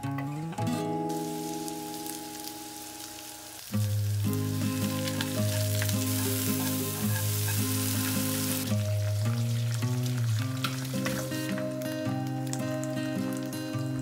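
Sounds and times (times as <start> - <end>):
soft background music: 0.0 - 14.0
mushrooms sizzling in a frying pan: 1.1 - 14.0.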